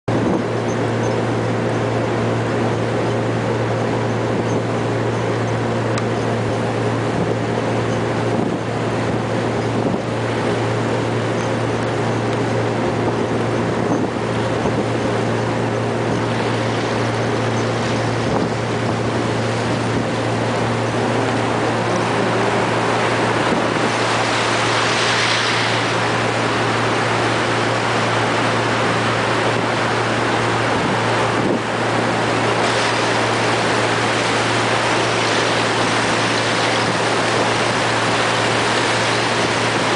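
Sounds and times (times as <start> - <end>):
boat engine droning: 0.0 - 39.9
rushing water and wind: 0.0 - 39.9.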